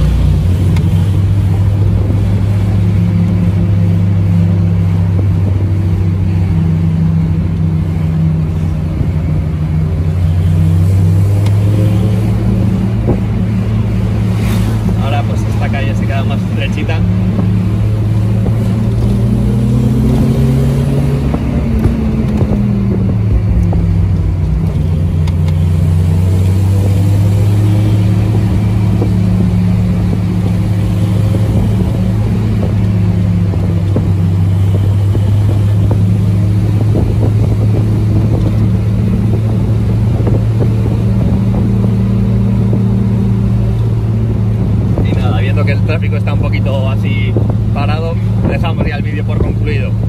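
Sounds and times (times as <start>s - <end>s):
car engine running: 0.0s - 50.0s
road noise: 0.0s - 50.0s.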